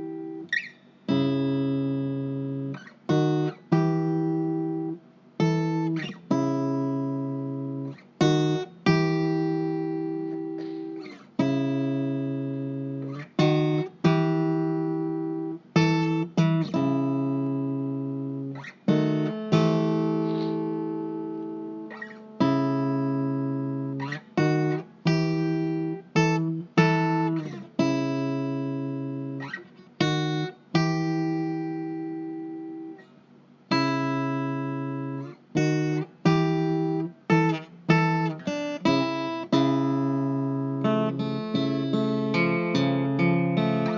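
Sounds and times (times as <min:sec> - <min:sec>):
acoustic guitar strumming: 0:00.0 - 0:33.1, 0:33.7 - 0:43.9.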